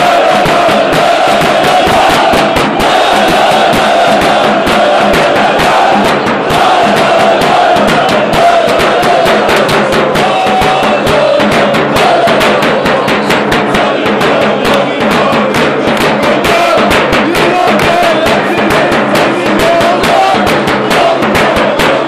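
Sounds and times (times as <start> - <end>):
bass drums beating: 0.0 - 22.0
football fans chanting: 0.0 - 22.0.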